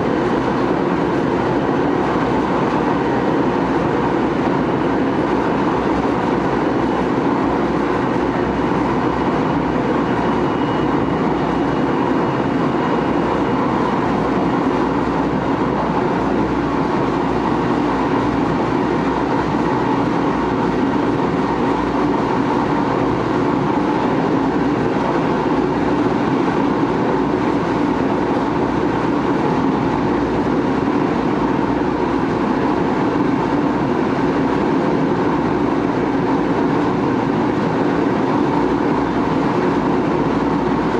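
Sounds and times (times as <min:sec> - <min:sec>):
train wheel and track rumble: 0:00.0 - 0:40.9.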